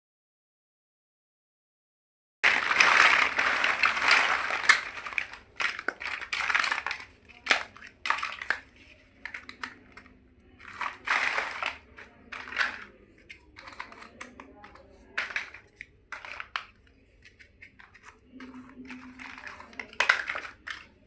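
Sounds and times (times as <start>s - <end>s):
packaging crinkling and rustling: 2.4s - 21.0s
plastic building blocks clicking: 2.4s - 21.0s.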